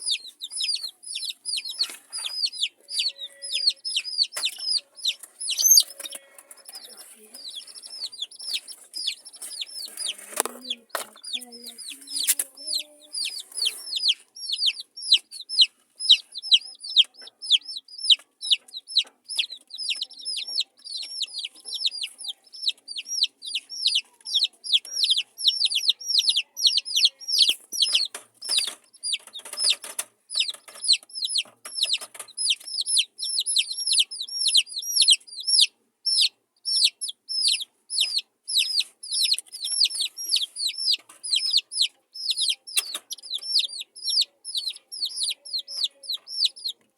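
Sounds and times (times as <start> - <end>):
baby chicks peeping: 0.0 - 46.9.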